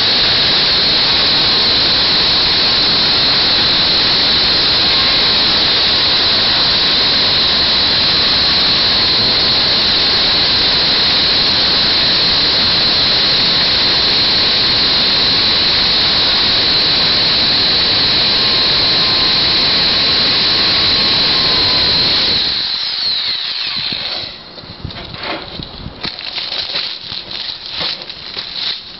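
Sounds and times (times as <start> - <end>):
electric chainsaw cutting wood: 0.0 - 24.5, 26.0 - 28.9.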